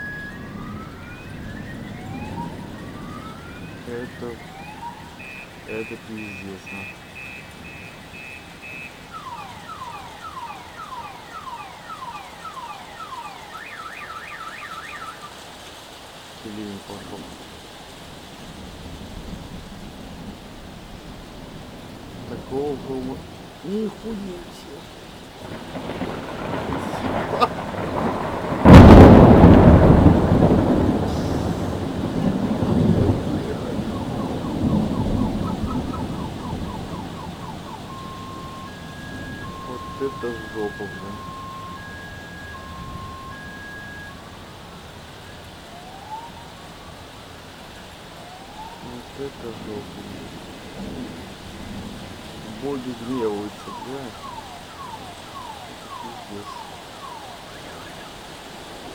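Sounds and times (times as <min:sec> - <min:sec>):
thunder crack and rumble: 0:00.0 - 0:10.5, 0:16.9 - 0:56.7
car alarm whooping and warbling: 0:00.0 - 0:15.4, 0:22.3 - 0:24.8, 0:25.5 - 0:47.1, 0:48.1 - 0:49.9, 0:52.4 - 0:58.6
heavy rain: 0:00.0 - 0:58.9.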